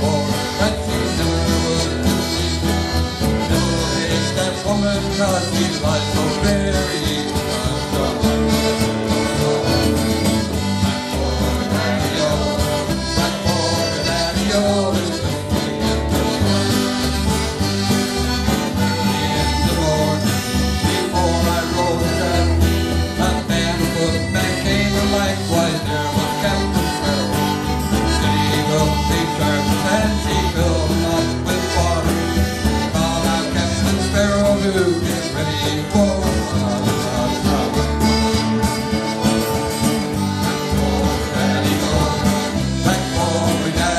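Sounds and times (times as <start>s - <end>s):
button accordion: 0.0s - 43.9s
cajon beat: 0.0s - 43.9s
electric bass: 0.0s - 43.9s
strummed acoustic guitar: 0.0s - 43.9s.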